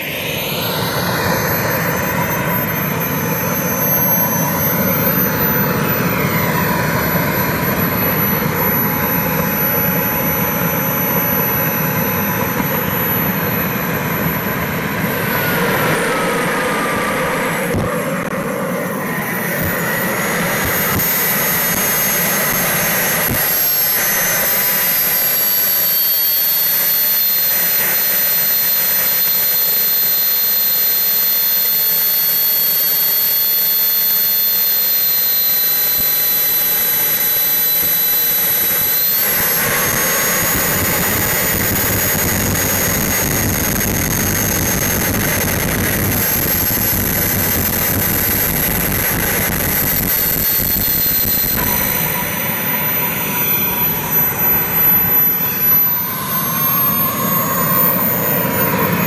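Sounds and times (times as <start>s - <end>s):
jet turbine rush and whine: 0.0s - 59.0s.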